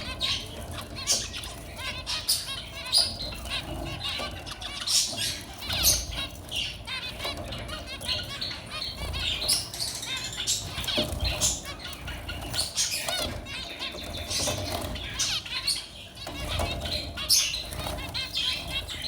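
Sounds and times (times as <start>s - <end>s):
finches chirping: 0.0s - 19.0s.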